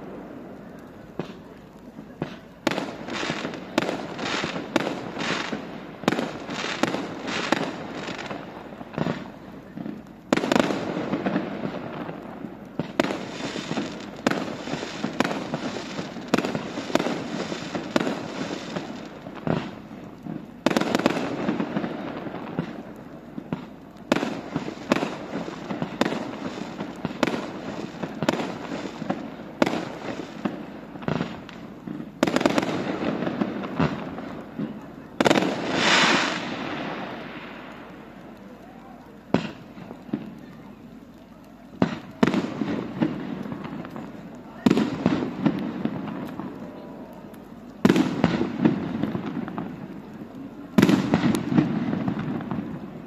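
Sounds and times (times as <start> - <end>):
fireworks bursting: 0.0 - 53.0.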